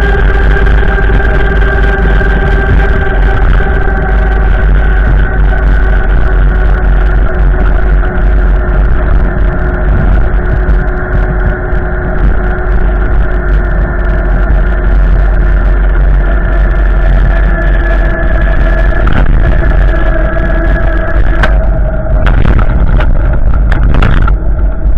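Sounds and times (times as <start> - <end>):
storm wind buffeting microphone: 0.0 - 24.9
whistling wind tones: 0.0 - 24.9.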